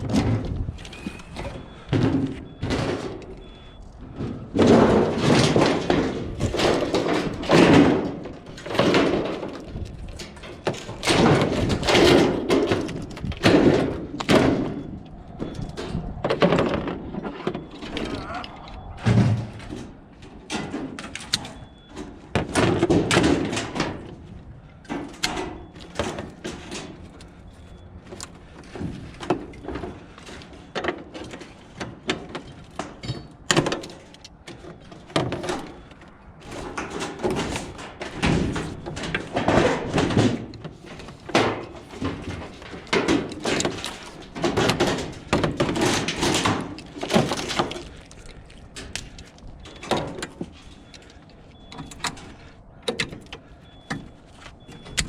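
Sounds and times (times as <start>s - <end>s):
scrap metal banging and clanking: 0.0s - 55.0s.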